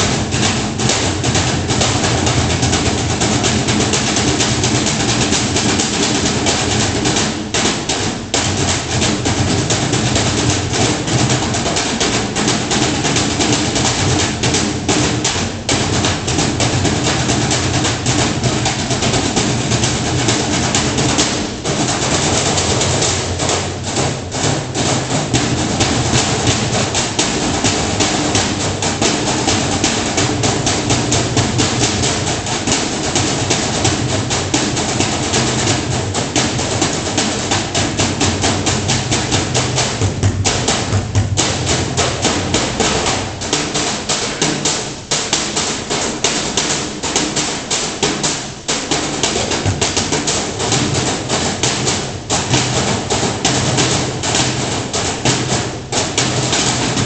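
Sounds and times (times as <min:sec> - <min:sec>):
drumming on metal trash cans: 0:00.0 - 0:57.0.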